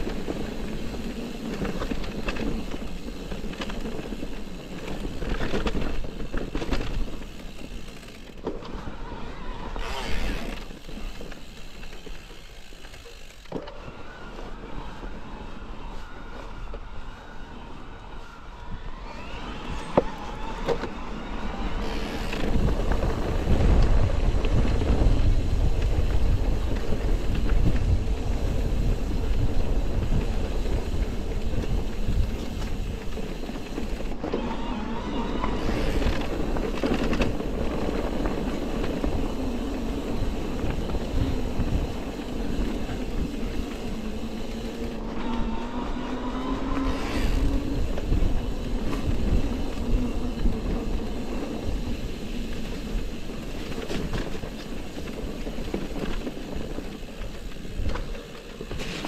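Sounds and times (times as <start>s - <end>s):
faint motor whine: 0.0s - 59.0s
rumble of tyres and wind: 0.0s - 59.0s.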